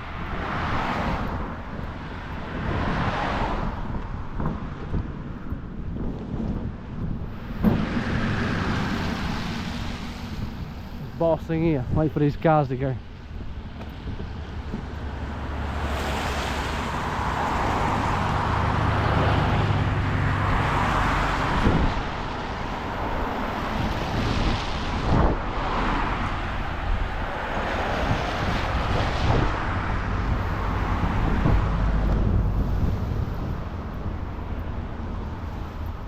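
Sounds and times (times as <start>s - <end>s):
cars driving past: 0.0s - 5.1s, 7.4s - 36.0s.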